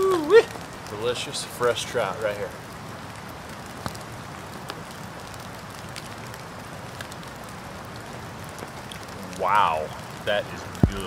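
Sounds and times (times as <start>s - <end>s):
background hiss: 0.0s - 11.0s
campfire crackling: 0.0s - 11.0s
sharp fire pops: 0.0s - 11.0s.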